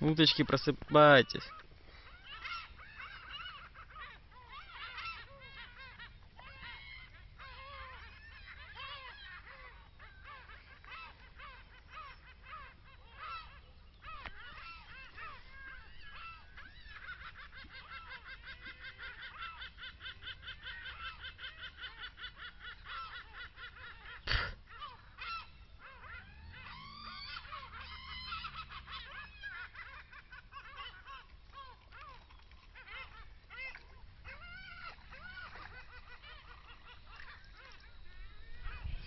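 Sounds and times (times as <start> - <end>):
animal cackling calls: 0.0 - 39.0
rising-and-falling animal calls: 0.1 - 39.0.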